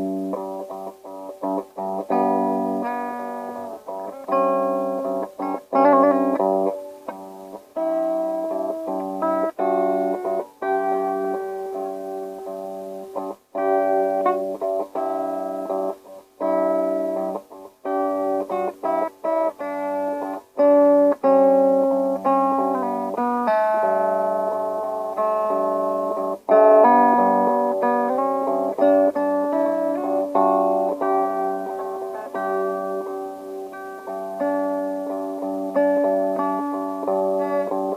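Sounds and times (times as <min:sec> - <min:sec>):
guitar plucking single notes: 0:00.0 - 0:37.9.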